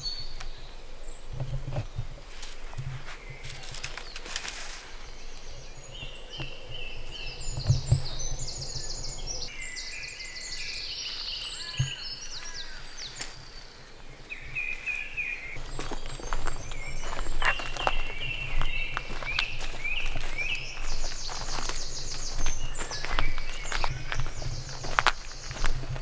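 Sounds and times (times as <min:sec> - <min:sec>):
songbirds chirping and trilling: 0:00.0 - 0:26.0.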